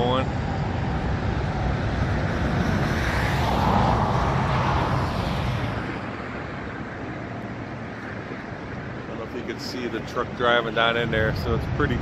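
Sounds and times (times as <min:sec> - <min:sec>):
vehicle passing: 0:00.0 - 0:11.7.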